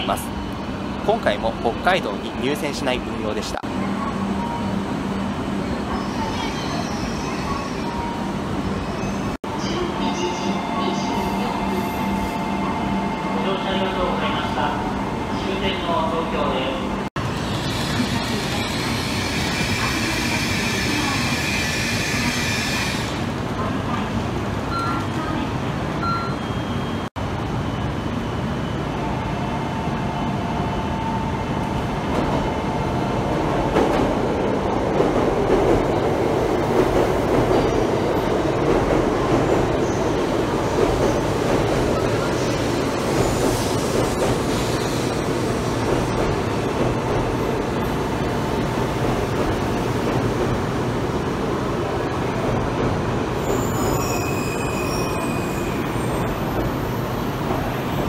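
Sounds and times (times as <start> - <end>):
train rumbling and braking: 0.0 - 58.0.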